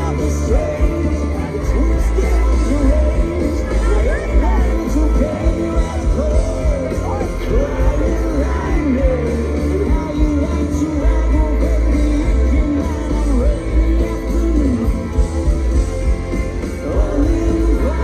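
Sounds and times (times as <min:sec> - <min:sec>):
live rock band playing: 0:00.0 - 0:18.0
person singing: 0:00.0 - 0:18.0.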